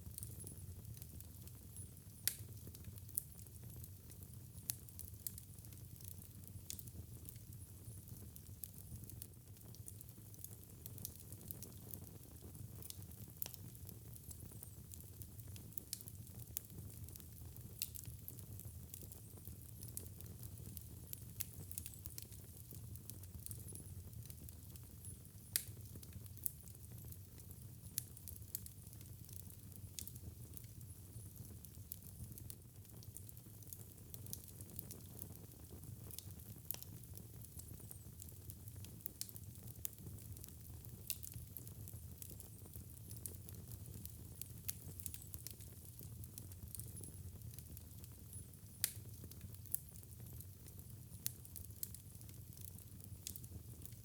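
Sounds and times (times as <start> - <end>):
fire crackling in fireplace: 0.0 - 54.0.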